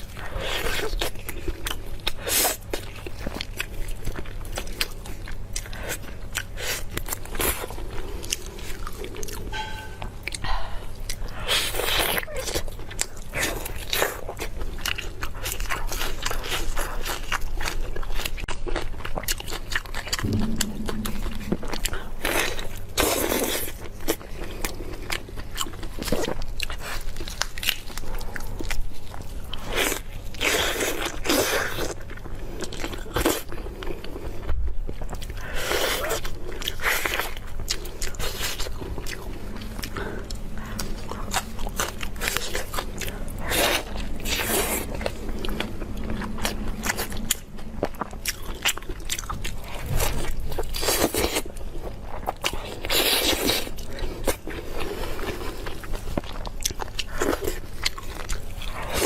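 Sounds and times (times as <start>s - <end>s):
person crunching and chewing food: 0.0s - 59.0s.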